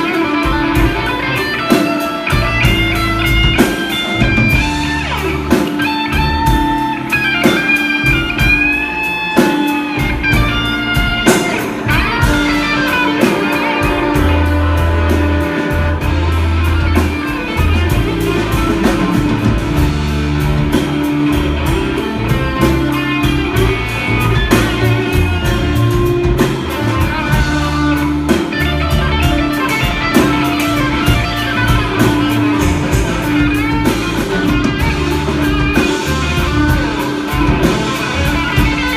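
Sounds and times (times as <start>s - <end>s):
bass: 0.0s - 38.9s
drums with steady beat: 0.0s - 38.9s
guitar melody: 0.0s - 38.9s.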